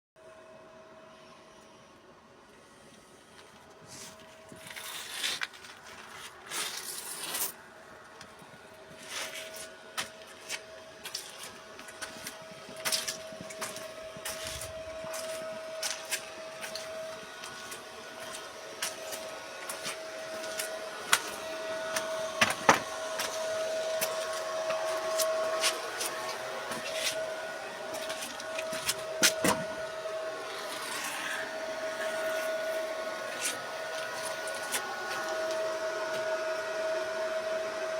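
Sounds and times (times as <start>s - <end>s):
steady mechanical hum: 0.2s - 37.9s.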